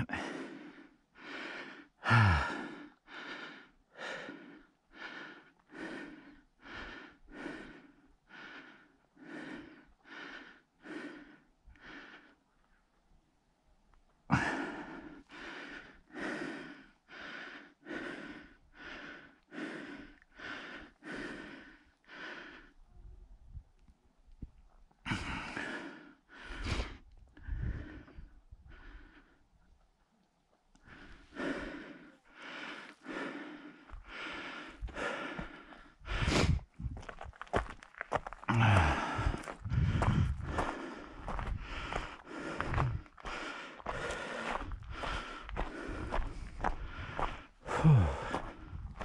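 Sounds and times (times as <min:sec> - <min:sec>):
person breathing hard: 0:00.0 - 0:12.4, 0:14.3 - 0:23.0, 0:25.0 - 0:29.4, 0:30.8 - 0:49.0.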